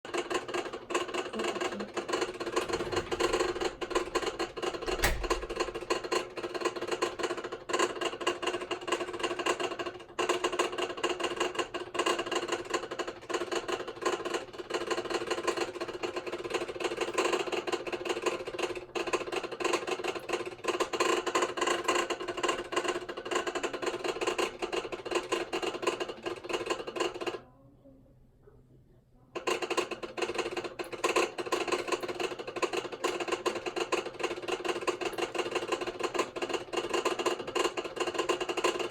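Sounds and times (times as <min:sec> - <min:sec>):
washing machine clattering: 0:00.1 - 0:27.4, 0:29.4 - 0:38.9.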